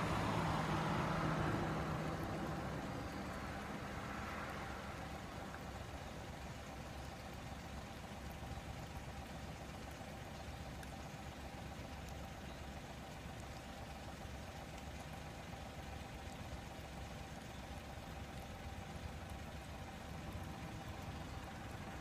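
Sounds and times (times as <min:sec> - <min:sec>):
low mechanical hum with whine: 0:00.0 - 0:22.0.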